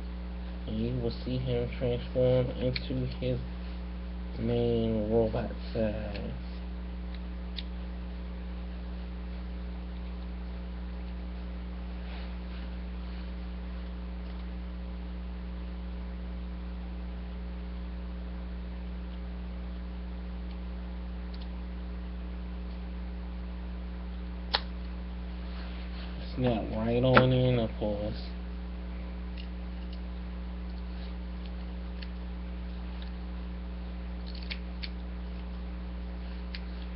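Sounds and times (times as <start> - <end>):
electrical mains hum: 0.0 - 36.9.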